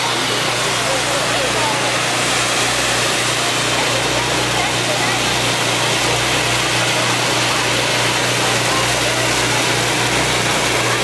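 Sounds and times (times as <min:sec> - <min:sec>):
firework fountain hissing: 0:00.0 - 0:11.0.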